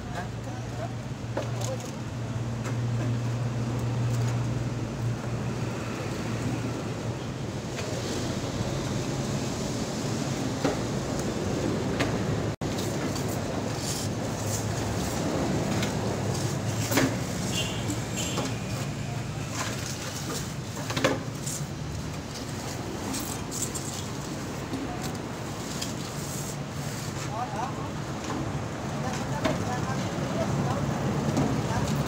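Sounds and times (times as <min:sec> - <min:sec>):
road traffic engine drone: 0:00.0 - 0:32.0.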